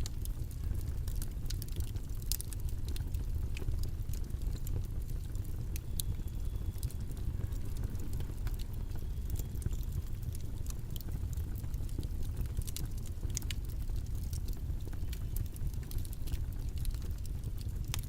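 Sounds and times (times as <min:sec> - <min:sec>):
faint ticks and clicks: 0:00.0 - 0:18.0
low rumbling background noise: 0:00.0 - 0:18.0.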